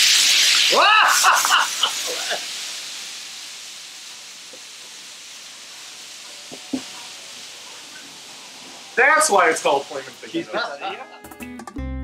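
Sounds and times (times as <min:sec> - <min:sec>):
food sizzling in a skillet: 0:00.0 - 0:11.5.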